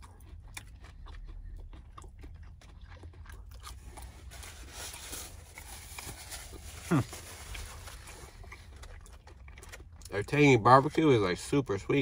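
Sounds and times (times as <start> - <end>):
wet chewing sounds: 0.0 - 12.0.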